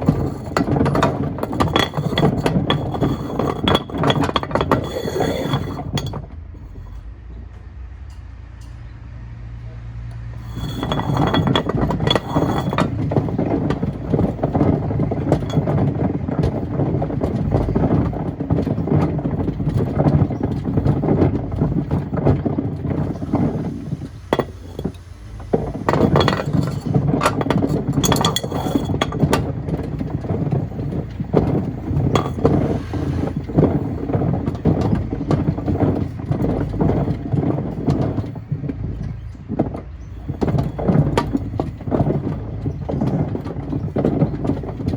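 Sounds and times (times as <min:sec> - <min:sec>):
stones clattering in washing machine: 0:00.0 - 0:07.1, 0:10.4 - 0:44.9.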